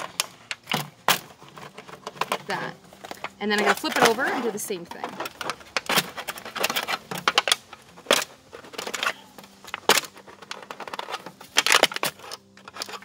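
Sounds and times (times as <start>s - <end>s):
aluminum foil pan crinkling: 0.0s - 13.0s.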